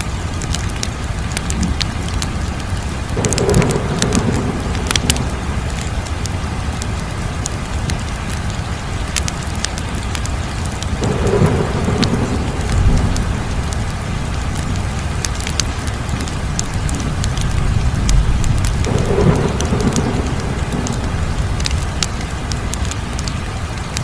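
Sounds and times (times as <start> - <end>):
low rumble of flames: 0.0 - 24.0
wood fire popping and snapping: 0.0 - 24.0.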